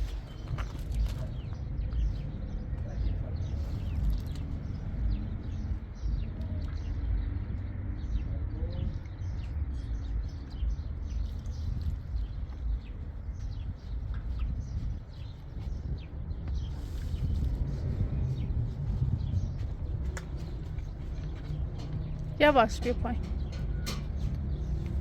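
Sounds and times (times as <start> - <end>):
small birds chirping: 0.0 - 25.0
steady low rumble: 0.0 - 25.0.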